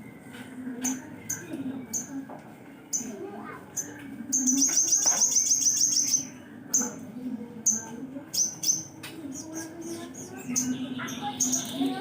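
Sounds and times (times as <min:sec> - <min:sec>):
bird trilling and chirping: 0:00.8 - 0:02.2, 0:02.9 - 0:12.0.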